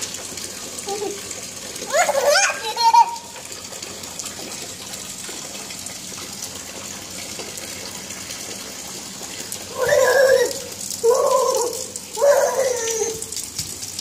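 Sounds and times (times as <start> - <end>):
rain on concrete roof: 0.0 - 14.0.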